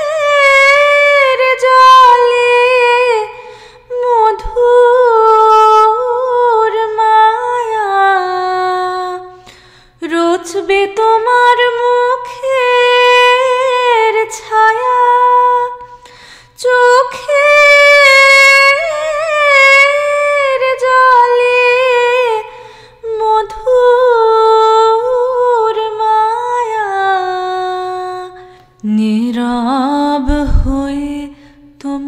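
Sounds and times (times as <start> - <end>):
woman singing in a high voice: 0.0 - 9.4, 10.0 - 16.0, 16.6 - 32.0.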